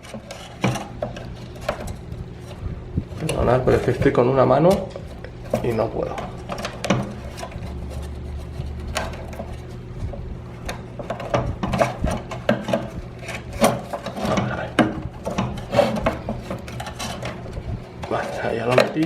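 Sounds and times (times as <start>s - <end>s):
scraping and rubbing: 0.0s - 19.0s.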